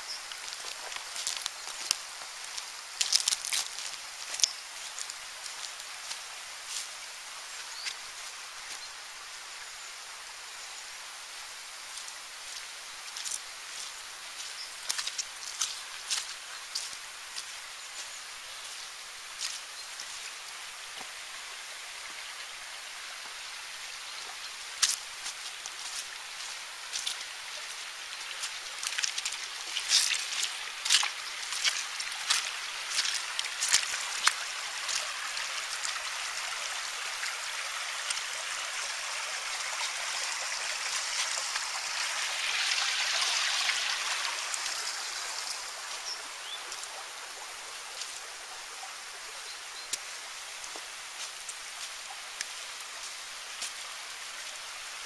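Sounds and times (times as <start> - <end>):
small stream rushing: 0.0 - 55.0.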